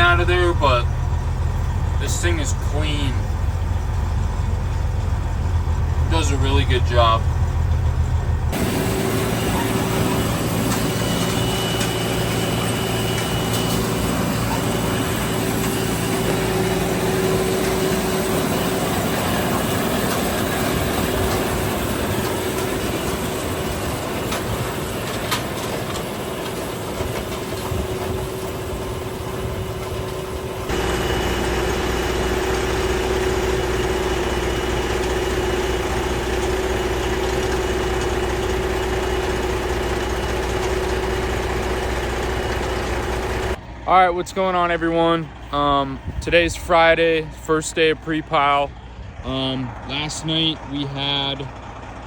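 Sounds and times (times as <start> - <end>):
engine idling: 0.0 - 52.0
harvest machinery whining: 0.0 - 52.0.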